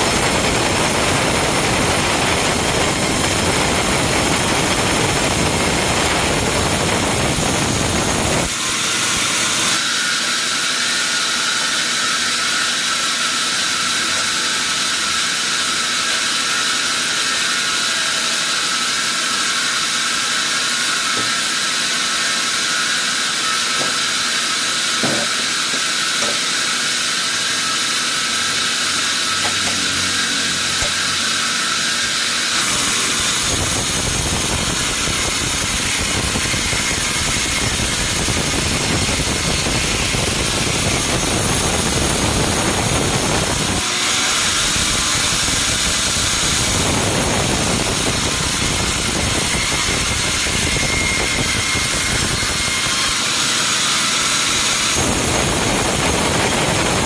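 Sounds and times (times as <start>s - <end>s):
saw cutting log: 0.0s - 57.0s.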